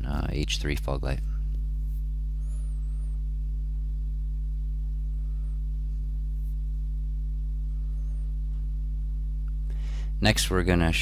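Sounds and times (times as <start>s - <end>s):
low electrical hum: 0.0s - 11.0s
faint steady tones: 0.8s - 10.1s.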